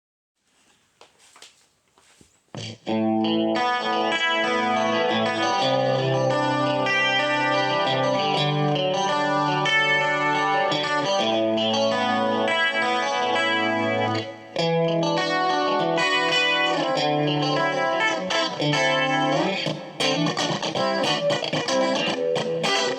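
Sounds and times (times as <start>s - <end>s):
clean electric guitar chords: 2.7s - 22.9s.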